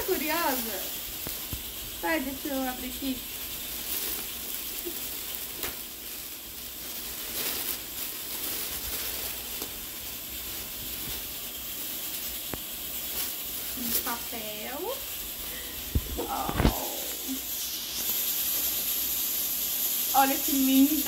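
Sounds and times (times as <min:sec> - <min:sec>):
plastic and paper crinkling: 0:00.0 - 0:19.2, 0:20.0 - 0:21.0.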